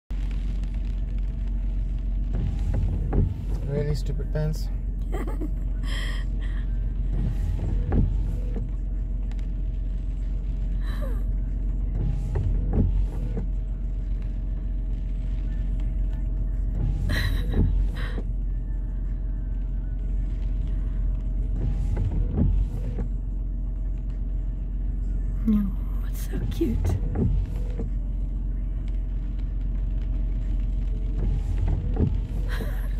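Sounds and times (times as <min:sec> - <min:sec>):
engine idling rumble: 0:00.0 - 0:32.9.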